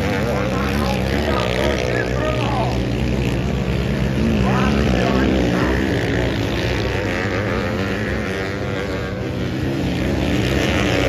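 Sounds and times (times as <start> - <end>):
motorcycle engines revving hard: 0.0 - 11.0.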